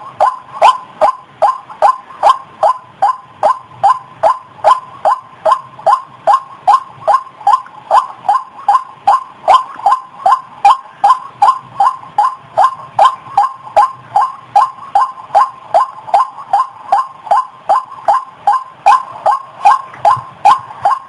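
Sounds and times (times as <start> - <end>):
bird calling harsh notes: 0.0 - 21.0.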